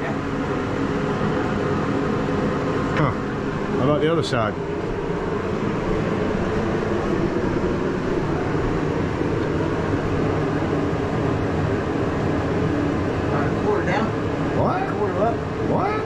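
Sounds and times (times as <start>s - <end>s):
machine droning: 0.0s - 16.0s.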